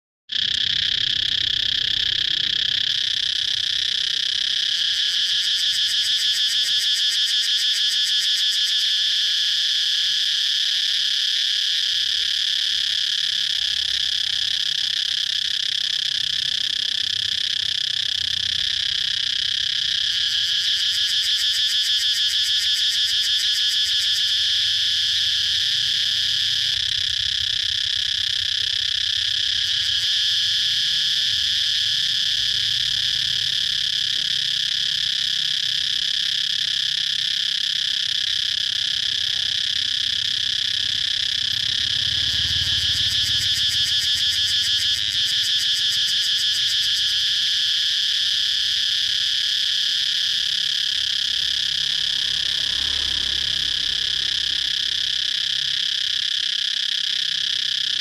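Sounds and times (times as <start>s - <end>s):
cicadas buzzing: 0.3s - 58.0s.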